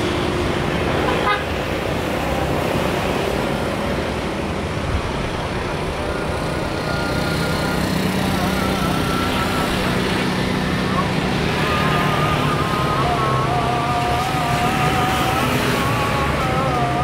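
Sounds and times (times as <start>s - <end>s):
distant jet engines: 0.0s - 17.0s
road traffic roar: 0.0s - 17.0s.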